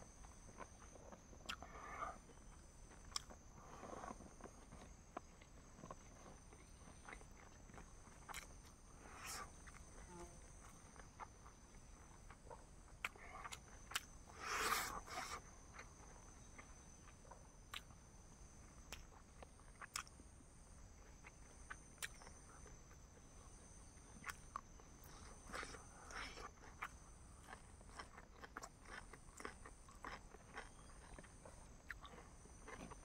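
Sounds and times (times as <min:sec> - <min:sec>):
insects chirping: 0:00.0 - 0:33.0
chewing crunches: 0:00.1 - 0:18.0, 0:18.7 - 0:20.3, 0:20.9 - 0:23.2, 0:24.0 - 0:33.0.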